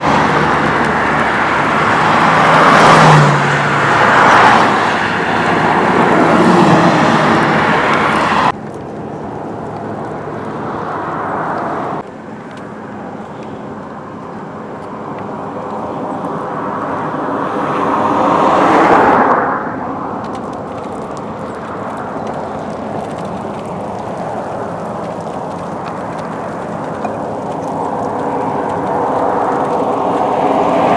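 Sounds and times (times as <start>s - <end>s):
cars passing: 0.0s - 30.9s
wind: 0.0s - 30.9s.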